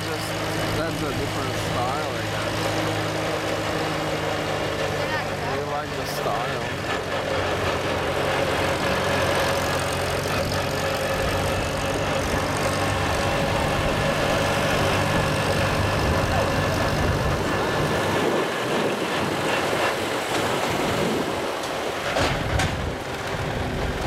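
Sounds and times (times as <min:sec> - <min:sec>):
road and wind noise: 0:00.0 - 0:24.0
tractor engine running: 0:00.0 - 0:24.0.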